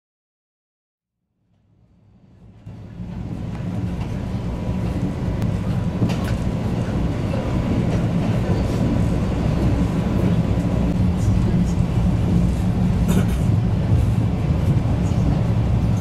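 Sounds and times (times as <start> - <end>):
train rumbling on rails: 1.5 - 16.0
rail clicks: 2.5 - 16.0.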